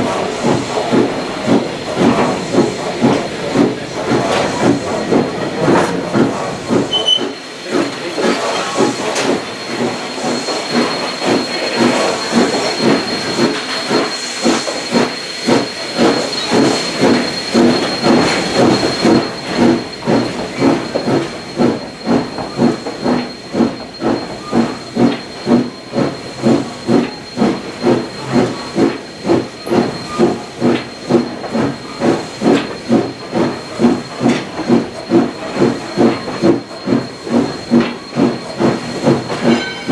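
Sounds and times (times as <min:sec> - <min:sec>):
steam hiss: 0:00.0 - 0:39.6
steam locomotive exhaust chuffing: 0:00.0 - 0:39.9.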